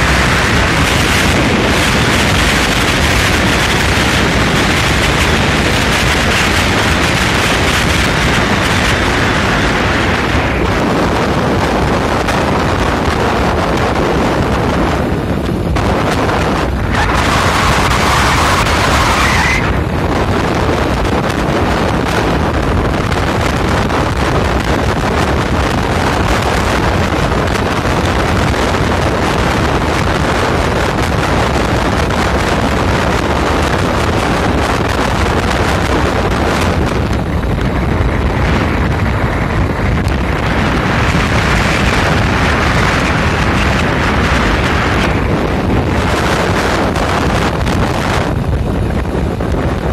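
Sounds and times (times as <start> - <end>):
motorcycle running noise: 0.0 - 49.9
wind buffeting microphone: 0.0 - 49.9.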